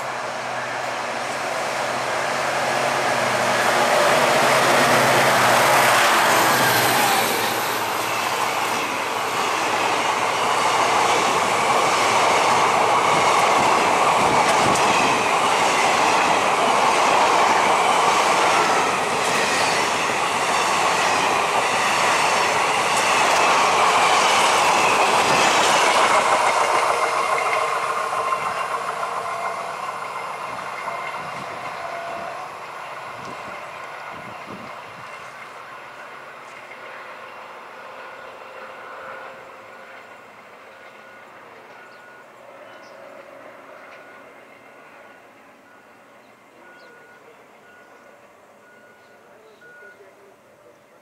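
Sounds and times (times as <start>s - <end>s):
train passing at speed: 0.0s - 51.0s.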